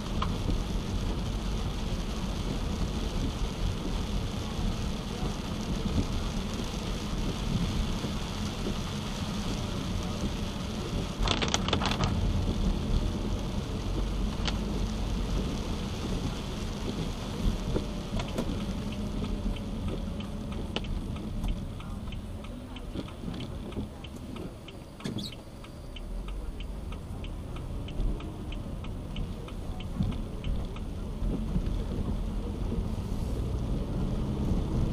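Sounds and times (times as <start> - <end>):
low car hum: 0.0 - 34.9
rain and tyres on wet road: 0.0 - 34.9.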